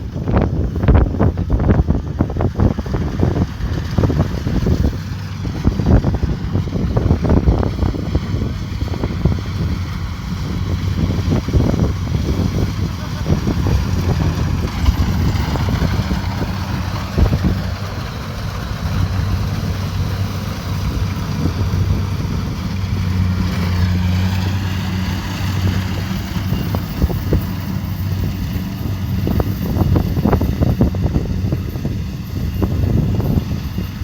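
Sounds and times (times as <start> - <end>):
combine harvester engine humming: 0.0 - 34.0.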